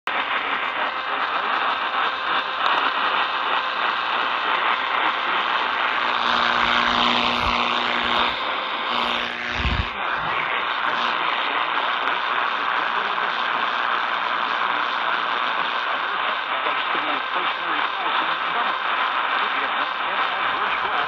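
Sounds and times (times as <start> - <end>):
radio static hiss: 0.1 - 21.0.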